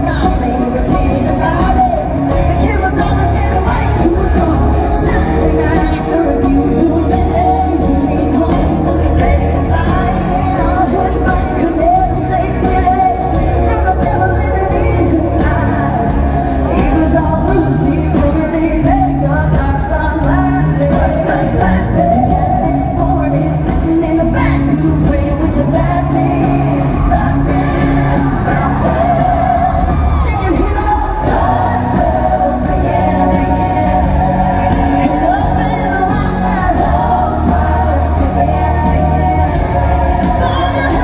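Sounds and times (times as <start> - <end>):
loud amplified band: 0.0 - 41.0
woman singing: 0.0 - 41.0.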